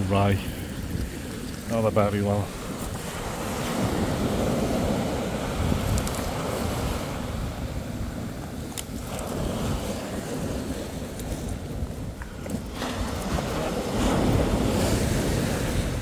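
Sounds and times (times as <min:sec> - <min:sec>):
waves washing onto shingle: 0:00.0 - 0:16.0
wind buffeting microphone: 0:00.0 - 0:16.0.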